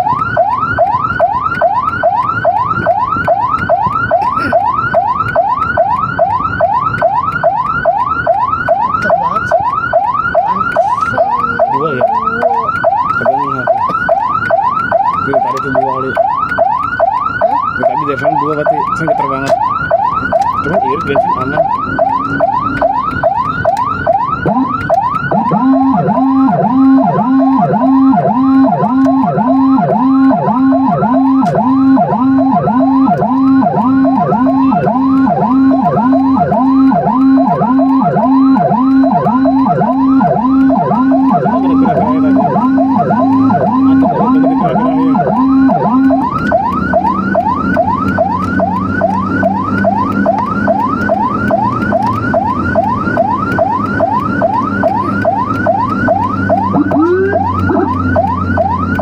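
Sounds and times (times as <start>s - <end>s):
lower pulsing siren: 0.0s - 59.0s
siren yelping: 0.0s - 59.0s.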